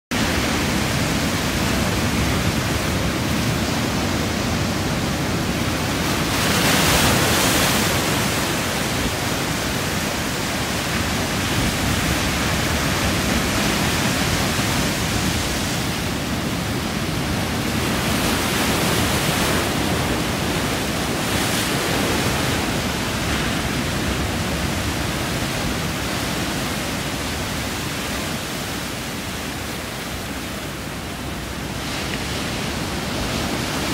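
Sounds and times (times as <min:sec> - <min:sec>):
ocean waves on rocks: 0:00.1 - 0:33.9.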